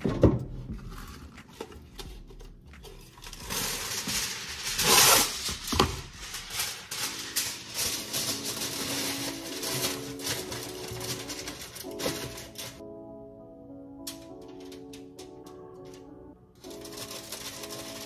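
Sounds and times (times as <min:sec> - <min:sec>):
aluminium foil crinkling: 0:00.7 - 0:12.8, 0:14.1 - 0:18.0.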